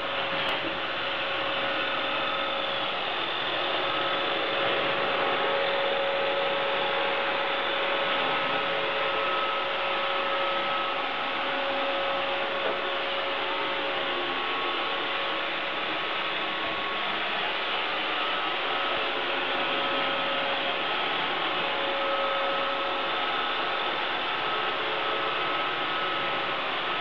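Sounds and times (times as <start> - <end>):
robot vacuum running: 0.0 - 27.0.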